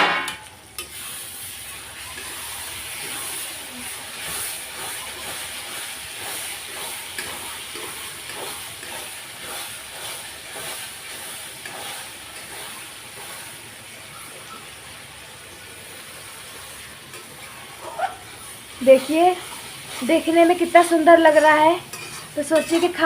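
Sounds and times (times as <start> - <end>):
masala sizzling in a pan: 0.0 - 23.0
spatula stirring: 0.8 - 13.7, 16.0 - 23.0.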